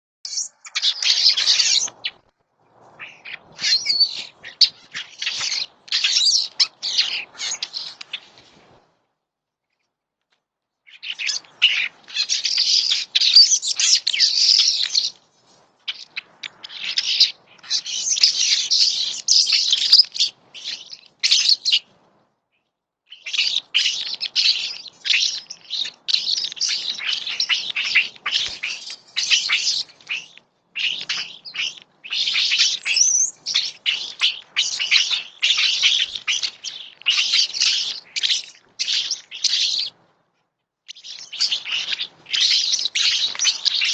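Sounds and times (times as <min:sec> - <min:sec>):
birds chirping: 0:00.3 - 0:02.3, 0:02.9 - 0:08.8, 0:10.9 - 0:15.2, 0:15.9 - 0:21.9, 0:23.1 - 0:40.0, 0:40.9 - 0:43.9.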